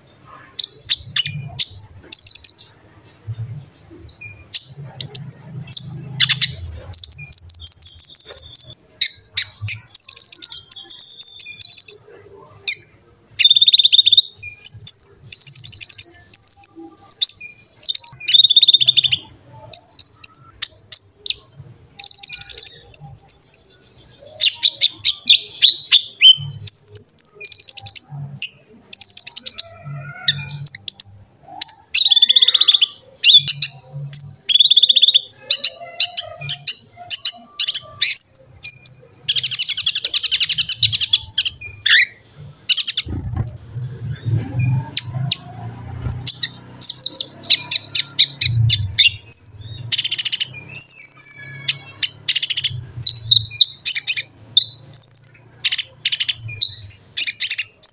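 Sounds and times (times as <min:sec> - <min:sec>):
sunbird singing: 0:00.0 - 0:57.9.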